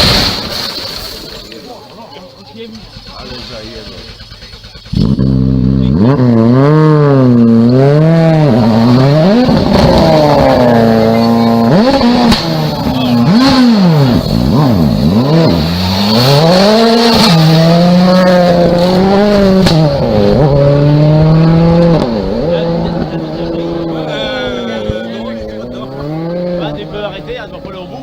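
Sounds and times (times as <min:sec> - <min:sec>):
rally car engine revving: 0:02.6 - 0:28.0.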